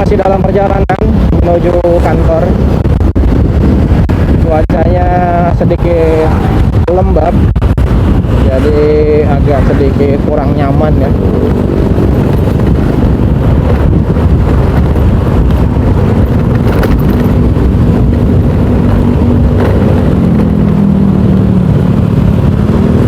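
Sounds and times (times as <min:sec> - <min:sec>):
motorcycle engine hum: 0:00.0 - 0:23.0
wind and road noise: 0:00.0 - 0:23.0.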